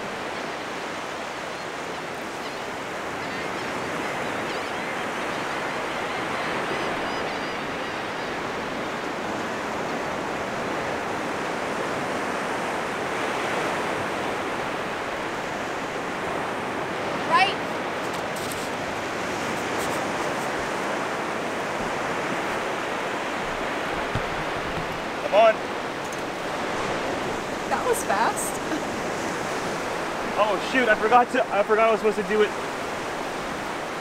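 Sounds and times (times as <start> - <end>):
ocean surf washing onto beach: 0.0 - 34.0.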